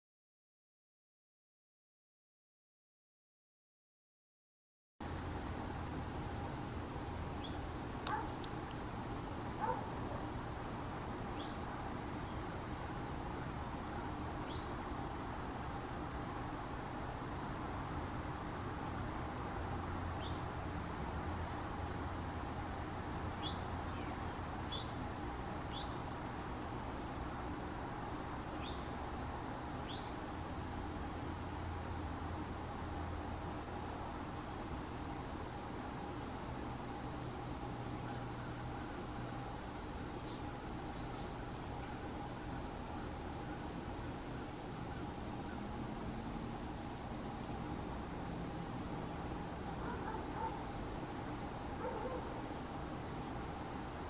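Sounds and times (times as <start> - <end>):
high insect trill: 5.0 - 54.0.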